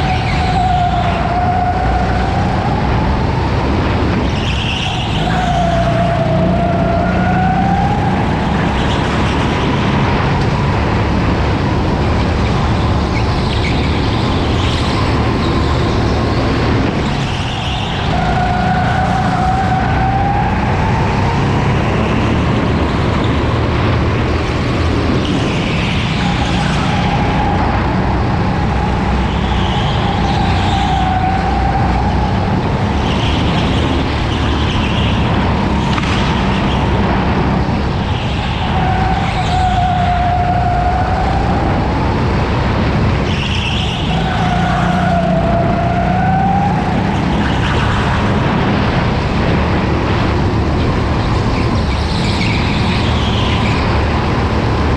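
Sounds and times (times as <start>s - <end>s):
go-kart engine rumble and whine: 0.0s - 54.9s.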